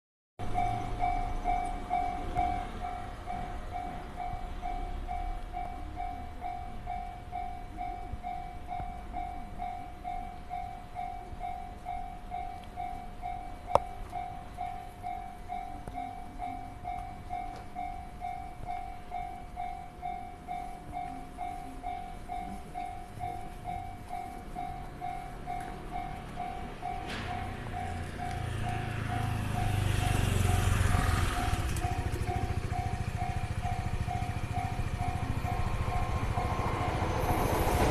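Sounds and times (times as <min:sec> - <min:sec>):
level crossing warning bell: 0:00.4 - 0:37.9.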